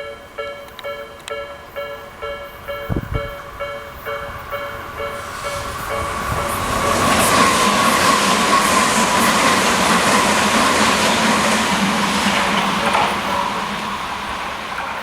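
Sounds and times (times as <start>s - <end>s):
level crossing warning bell: 0.0s - 14.2s
electric train passing: 0.0s - 15.0s
rail clatter: 0.4s - 15.0s.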